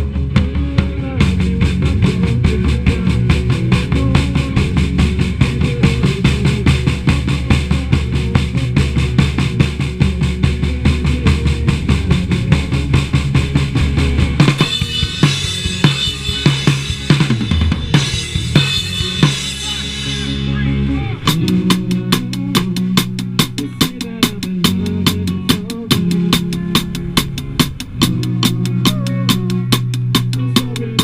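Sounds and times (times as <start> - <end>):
rock band jamming: 0.0 - 31.0
drum hits and cymbal crashes: 1.4 - 20.4, 21.3 - 31.0.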